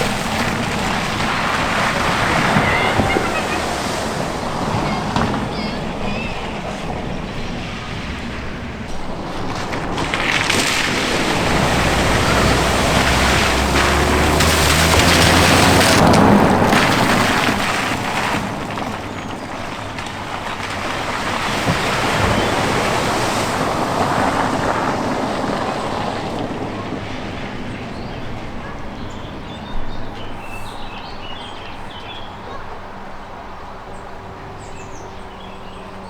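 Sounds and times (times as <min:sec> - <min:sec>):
car engine humming: 0:00.0 - 0:36.0
water splashing and surging: 0:00.0 - 0:36.0.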